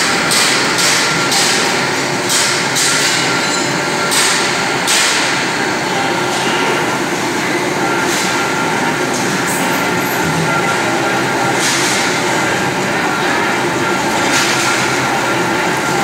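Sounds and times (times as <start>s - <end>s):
industrial machine din: 0.0s - 16.0s.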